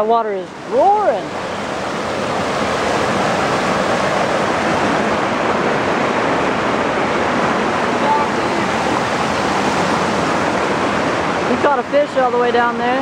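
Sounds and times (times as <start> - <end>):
creek rapids roaring: 0.0 - 13.0.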